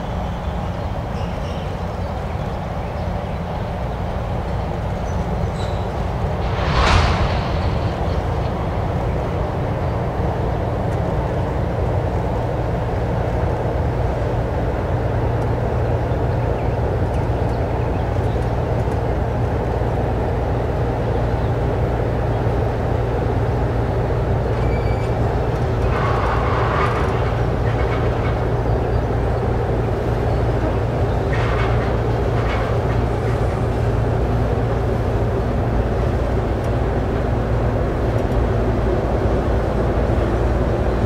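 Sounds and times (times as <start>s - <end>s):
train rolling on rails: 0.0s - 41.0s.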